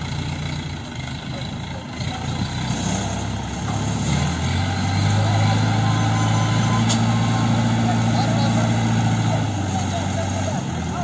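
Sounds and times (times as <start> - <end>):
crane diesel engine under load: 0.0 - 11.0.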